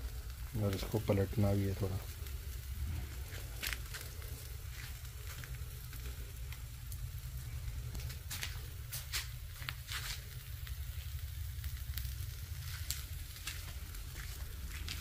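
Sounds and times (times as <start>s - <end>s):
chicken sizzling on a grill: 0.0s - 15.0s
low steady rumble: 0.0s - 15.0s
sharp crackles: 0.0s - 15.0s.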